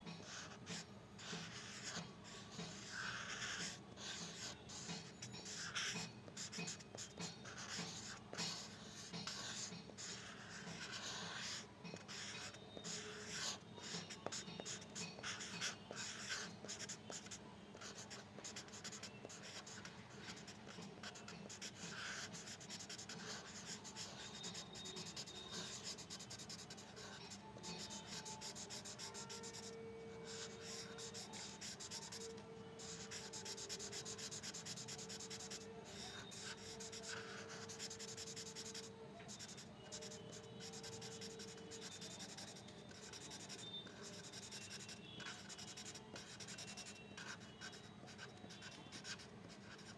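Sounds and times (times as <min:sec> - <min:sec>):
drawing tool scratching paper: 0:00.2 - 0:49.9.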